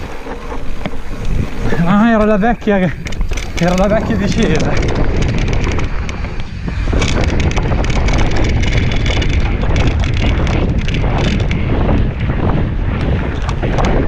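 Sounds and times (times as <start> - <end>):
bike clicking and rattling: 0.0 - 14.0
tyres on dirt: 0.0 - 14.0
wind buffeting microphone: 0.0 - 14.0.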